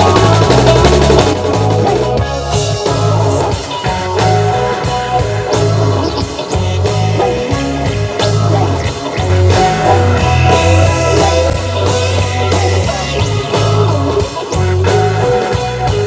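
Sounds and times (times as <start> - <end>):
bass line: 0.0 - 16.0
drums: 0.0 - 16.0
guitar lines: 0.0 - 16.0.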